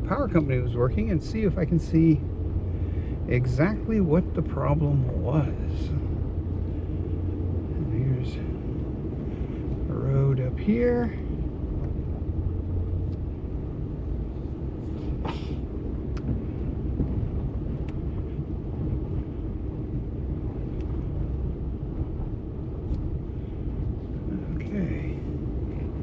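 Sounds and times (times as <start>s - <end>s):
truck engine and tyres rumble: 0.0s - 26.0s.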